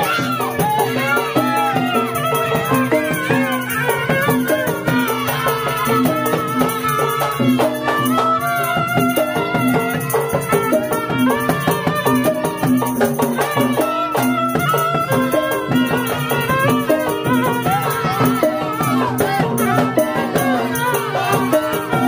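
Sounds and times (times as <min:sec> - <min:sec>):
bowed fiddle melody: 0:00.0 - 0:22.0
drum beat: 0:00.0 - 0:22.0.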